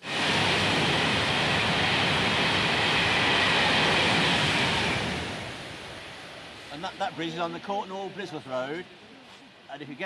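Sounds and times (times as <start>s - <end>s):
train passing: 0.0s - 8.4s.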